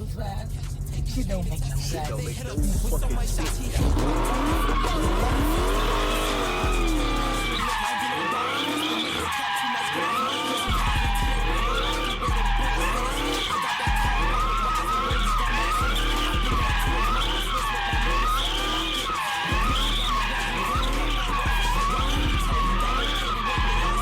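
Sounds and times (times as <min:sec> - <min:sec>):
deep drone: 0:00.0 - 0:07.9, 0:10.5 - 0:24.0
car tires screeching: 0:00.4 - 0:24.0.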